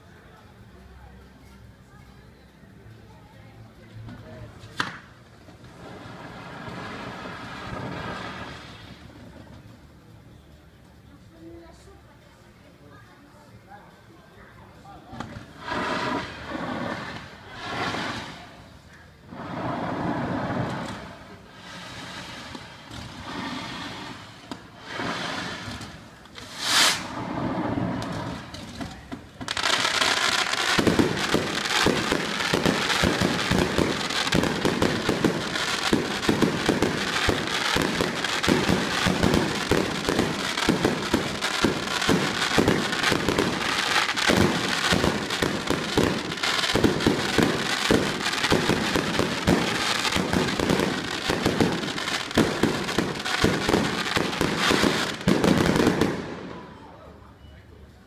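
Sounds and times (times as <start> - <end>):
fireworks bangs and crackling: 4.0 - 10.2, 15.0 - 57.0.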